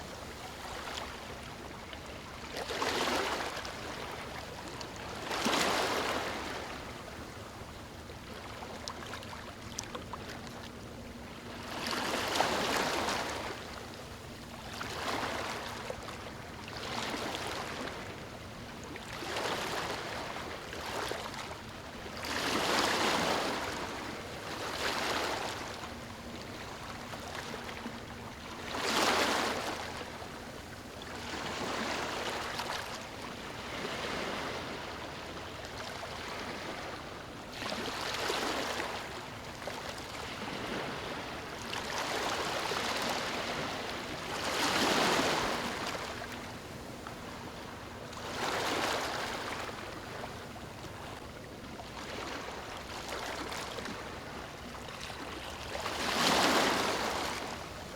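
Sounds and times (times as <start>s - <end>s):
small waves lapping on beach: 0.0s - 57.9s.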